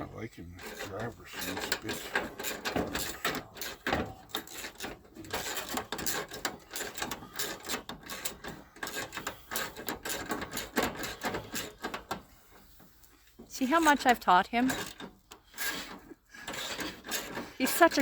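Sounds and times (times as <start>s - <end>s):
hand ratchet clicking: 0.6s - 12.2s, 14.6s - 18.0s.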